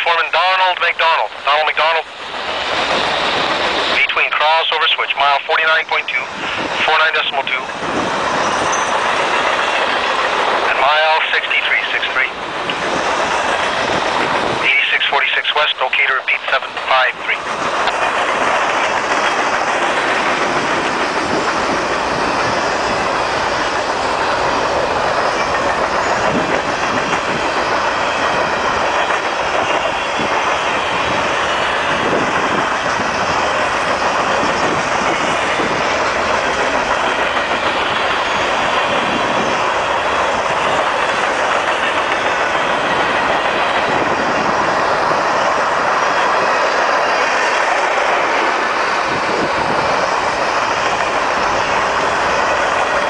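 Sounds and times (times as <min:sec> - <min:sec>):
train wheels rushing on rails: 0:00.0 - 0:53.0.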